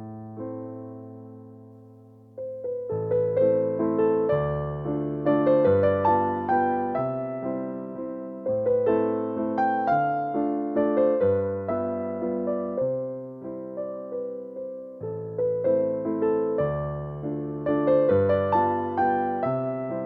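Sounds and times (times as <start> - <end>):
gentle electric piano piece: 0.0 - 20.0.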